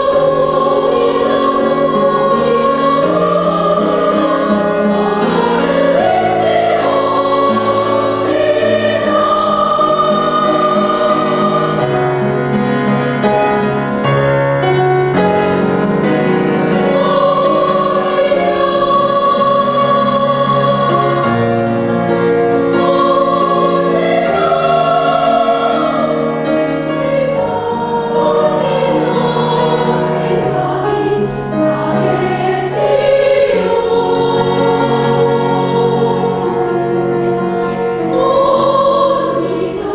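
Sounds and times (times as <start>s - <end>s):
choir singing in harmony: 0.0s - 39.9s
piano accompaniment: 0.0s - 39.9s.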